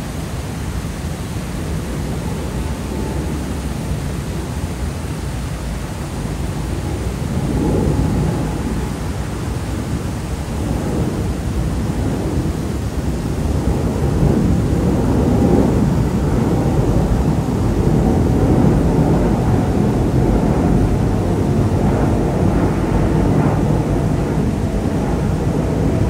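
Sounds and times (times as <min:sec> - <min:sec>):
jet airliner rumble overhead: 0:00.0 - 0:26.0.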